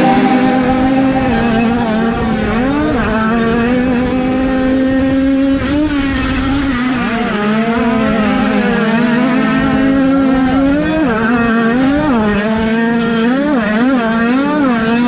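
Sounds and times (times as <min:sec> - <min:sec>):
two-stroke motocross bikes revving: 0:00.0 - 0:15.0.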